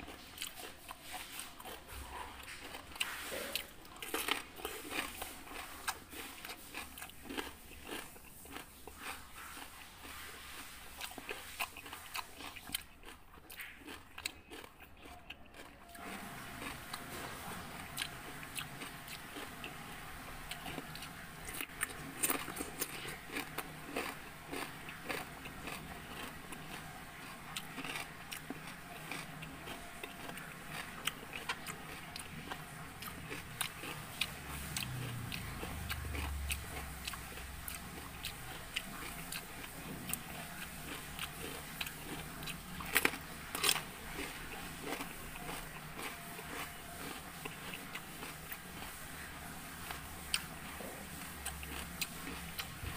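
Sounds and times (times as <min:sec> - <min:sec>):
crunching cucumber: 0:00.0 - 0:52.9.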